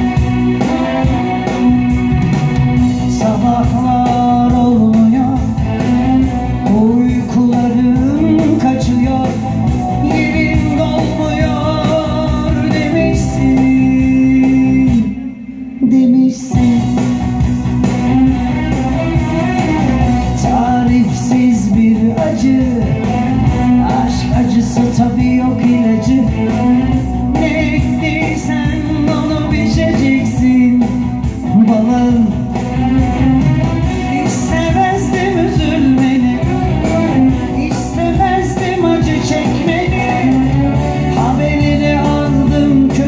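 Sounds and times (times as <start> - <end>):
electronic keyboard band music: 0.0 - 43.0
man singing into a microphone: 2.9 - 17.4, 19.5 - 32.9, 34.0 - 43.0.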